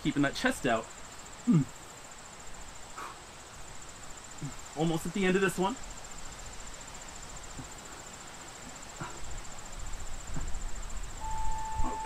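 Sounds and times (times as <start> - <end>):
crickets trilling: 0.0 - 12.0
faint outdoor background noise: 0.0 - 12.0.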